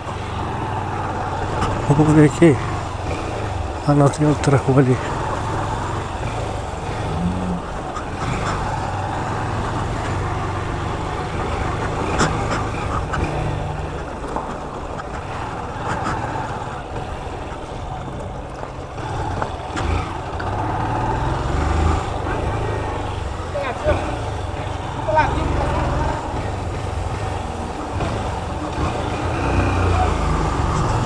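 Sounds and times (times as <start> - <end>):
motorcycle engine at low speed: 0.0 - 31.0.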